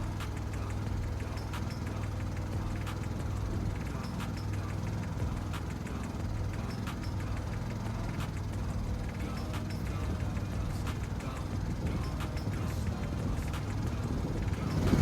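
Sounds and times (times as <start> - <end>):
boat engine humming: 0.0 - 15.0
scattered clicks: 0.1 - 15.0.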